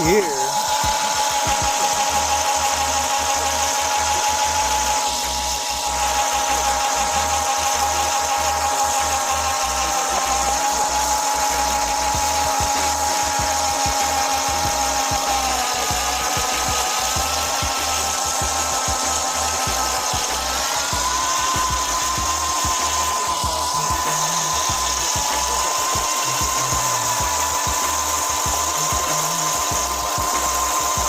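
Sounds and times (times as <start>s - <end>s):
small electric motor whining: 0.0s - 31.0s.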